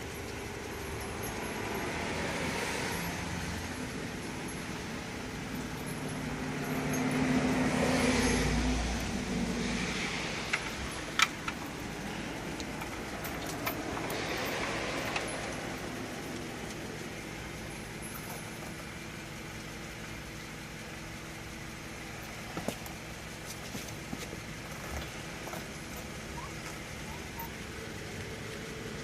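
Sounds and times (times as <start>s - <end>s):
metal tire chain clinks: 0.0s - 9.2s, 10.5s - 19.6s, 22.0s - 27.8s
road traffic: 0.0s - 29.0s
vehicle engine running: 0.0s - 29.0s.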